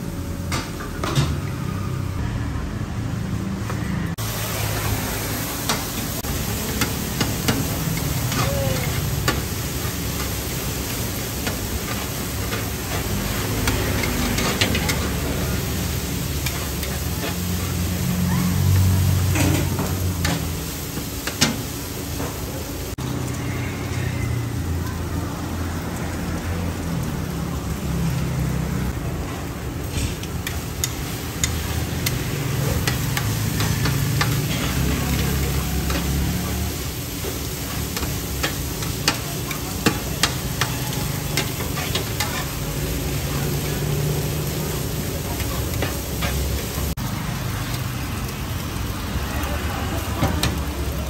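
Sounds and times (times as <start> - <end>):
omelette sizzling in wok: 3.7 - 51.0.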